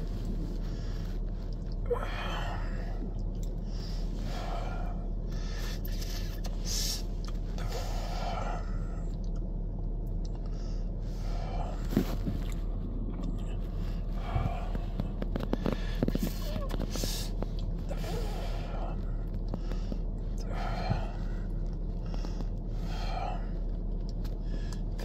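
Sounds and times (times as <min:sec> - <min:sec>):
man breathing heavily: 0:00.0 - 0:25.0
steady low hum: 0:00.0 - 0:25.0.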